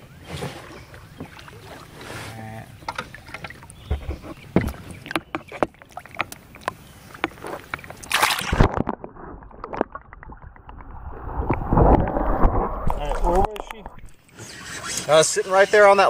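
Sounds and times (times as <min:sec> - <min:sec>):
water sloshing and splashing: 0:00.1 - 0:15.1.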